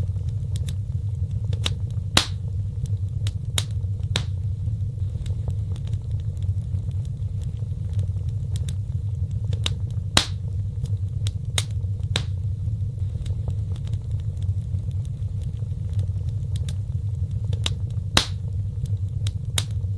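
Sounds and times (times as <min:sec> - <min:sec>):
fireplace fire crackling: 0:00.0 - 0:19.9
low fire rumble: 0:00.0 - 0:19.9.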